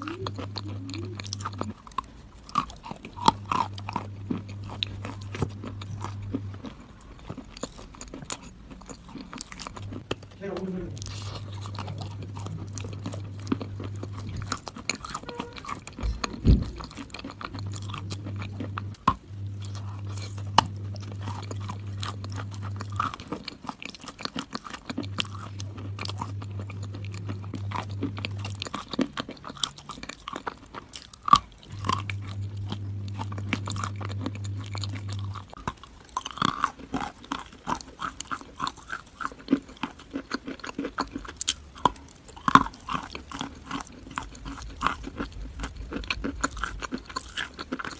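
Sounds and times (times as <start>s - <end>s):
low hum: 0.0s - 39.2s
crunchy food chewing: 0.0s - 47.9s.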